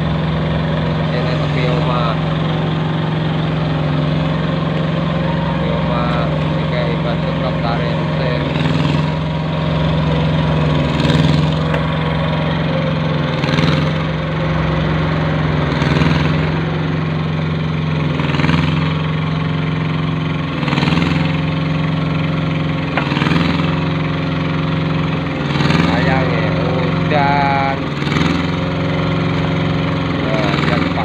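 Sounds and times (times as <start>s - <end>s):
small machine engine running: 0.0s - 31.0s.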